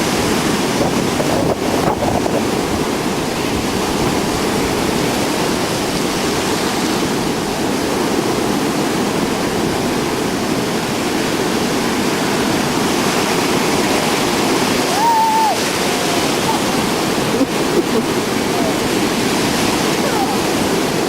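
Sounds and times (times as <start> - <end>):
rough storm surf rushing: 0.0 - 21.0.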